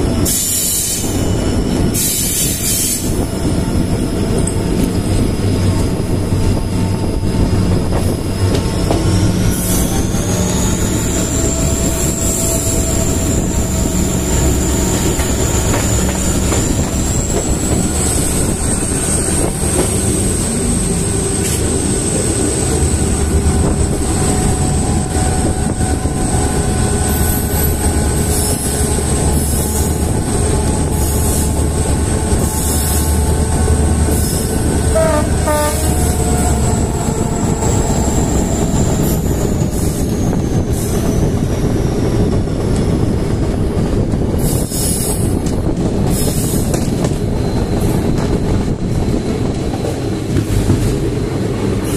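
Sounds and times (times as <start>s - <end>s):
locomotive engine humming: 0.0s - 51.9s.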